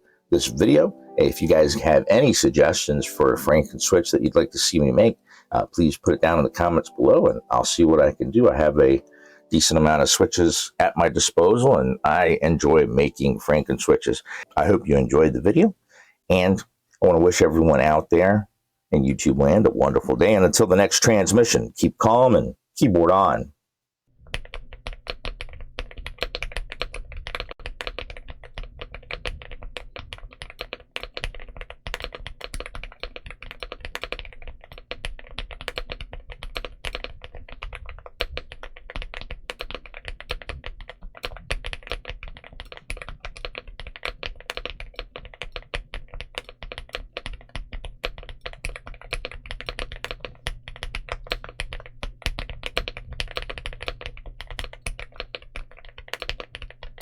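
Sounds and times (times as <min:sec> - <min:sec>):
fast mechanical keyboard typing: 0:00.6 - 0:14.7, 0:24.3 - 0:57.0.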